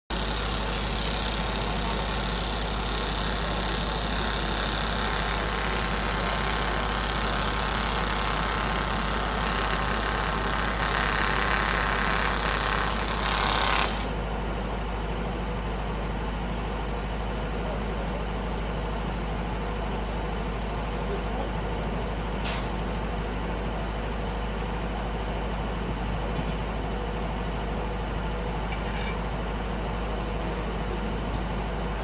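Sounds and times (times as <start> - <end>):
diesel construction machinery running: 0.1 - 32.0.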